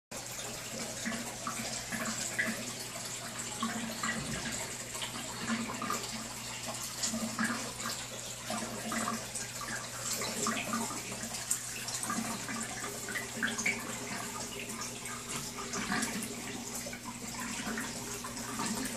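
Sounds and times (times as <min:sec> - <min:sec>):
aquarium equipment hum: 0:00.2 - 0:18.9
water trickling and bubbling: 0:00.2 - 0:18.9.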